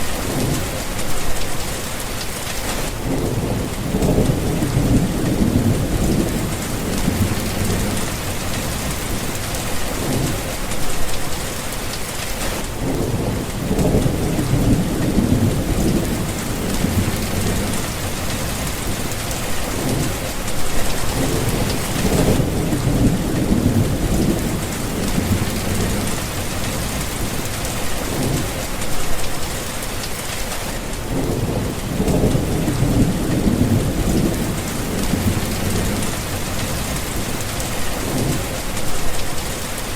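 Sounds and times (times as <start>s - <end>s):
heavy rain: 0.0s - 39.9s
thunder rolling: 2.8s - 11.4s, 12.4s - 28.9s, 31.0s - 39.4s.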